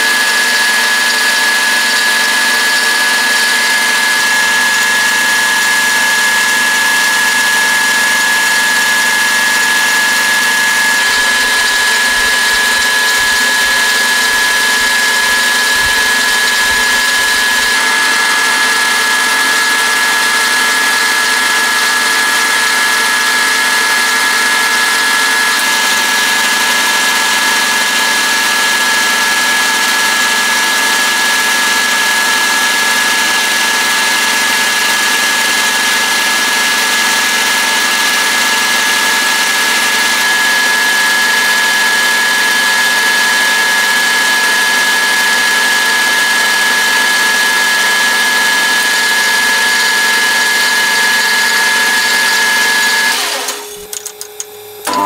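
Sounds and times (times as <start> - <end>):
workshop machine whining: 0.0 - 55.0.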